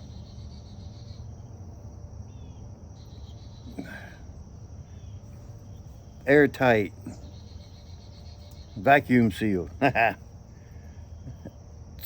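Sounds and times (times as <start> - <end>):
low steady hum: 0.0 - 12.0
insect trilling: 2.3 - 12.0.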